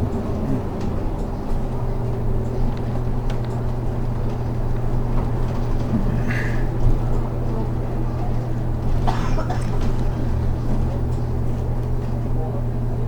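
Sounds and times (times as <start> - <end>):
bus engine droning: 0.0 - 13.0
road noise: 0.0 - 13.0.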